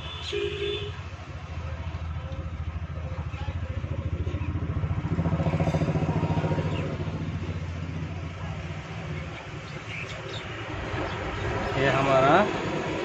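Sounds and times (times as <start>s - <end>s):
engine running: 1.0s - 13.0s.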